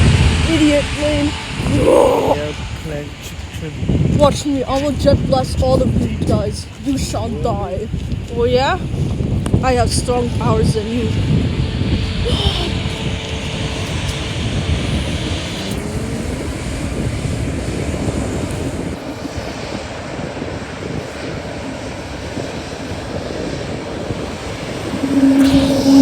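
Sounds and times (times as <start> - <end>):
airliner engines rumbling: 0.0 - 26.0.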